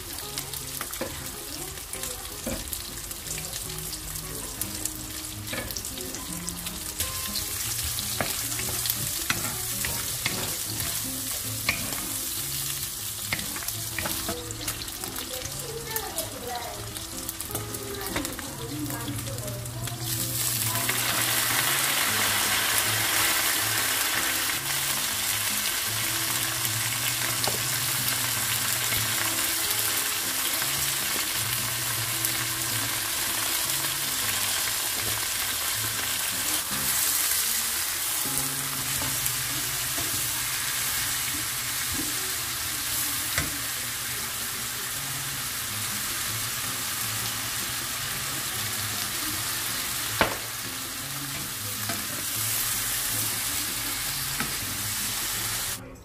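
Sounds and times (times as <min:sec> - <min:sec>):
food sizzling in a wok: 0:00.0 - 0:55.8.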